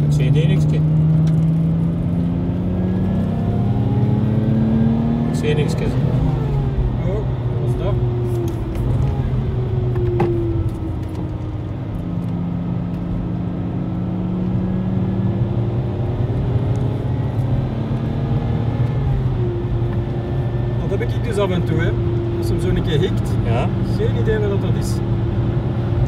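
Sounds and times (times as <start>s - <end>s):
car engine revving: 0.0s - 26.0s
road and tyre noise: 0.0s - 26.0s.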